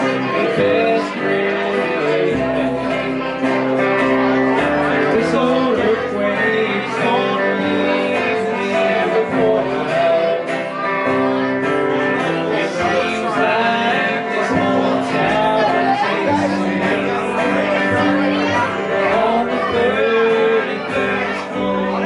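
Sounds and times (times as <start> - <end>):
electric guitar: 0.0 - 22.0
upright bass line: 0.0 - 22.0.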